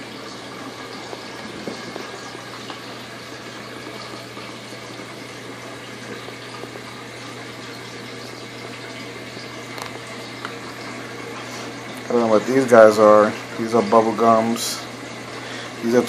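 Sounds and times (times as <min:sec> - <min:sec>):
pump humming: 0:00.0 - 0:16.0
water running: 0:00.0 - 0:16.0.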